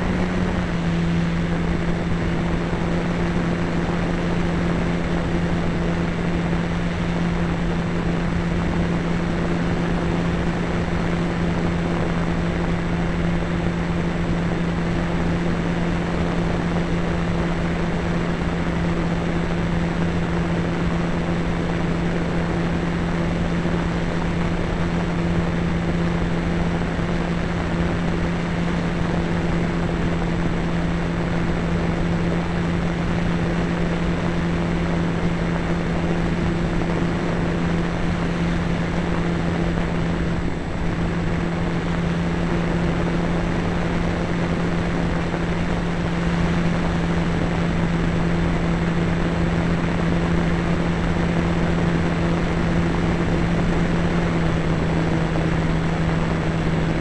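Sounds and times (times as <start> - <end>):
model plane motor droning: 0.0 - 57.0.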